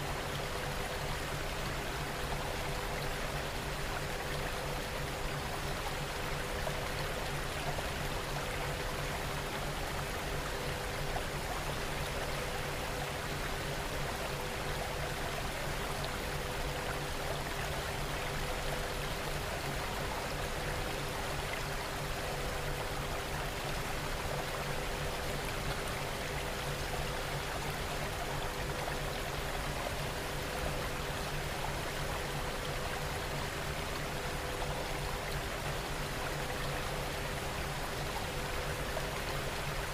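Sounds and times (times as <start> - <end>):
faint hum-like tones: 0.0 - 39.9.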